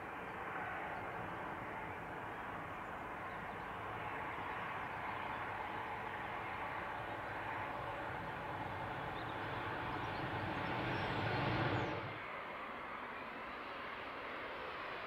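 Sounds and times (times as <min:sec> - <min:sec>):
airliner jet noise on approach: 0:00.0 - 0:15.0
jet engines roaring on runway: 0:00.0 - 0:15.0.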